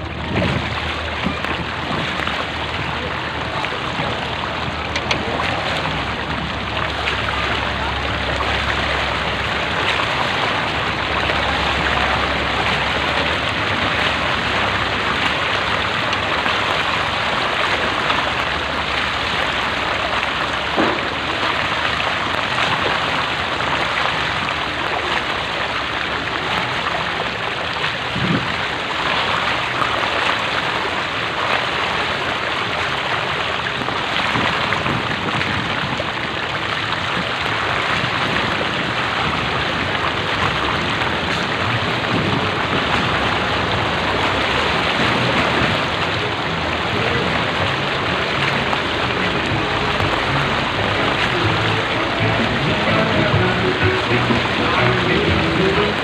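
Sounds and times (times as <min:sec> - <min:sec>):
floodwater rushing and splashing: 0:00.0 - 0:56.0.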